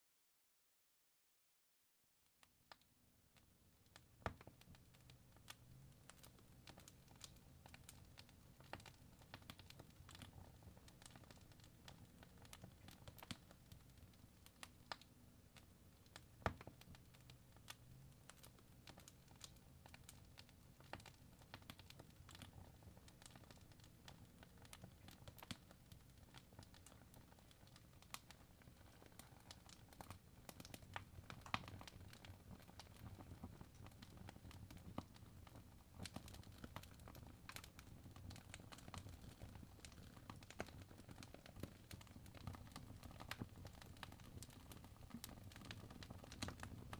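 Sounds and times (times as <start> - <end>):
fireplace fire crackling: 2.7 - 46.9
fire popping and snapping: 3.8 - 46.9.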